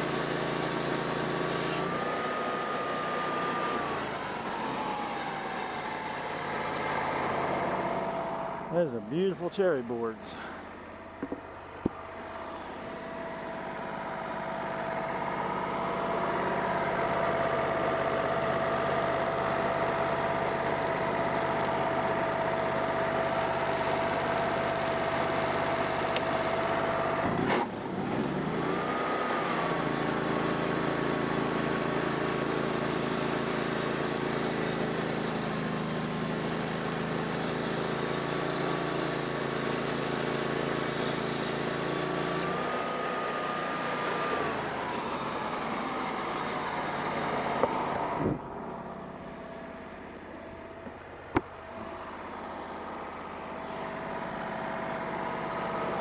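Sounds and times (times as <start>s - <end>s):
band sawmill droning: 0.0s - 56.0s.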